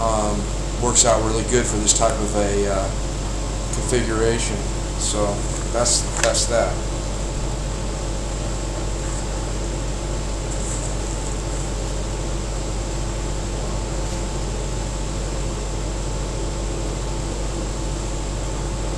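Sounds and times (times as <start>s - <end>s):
steady hum and hiss: 0.0s - 18.9s.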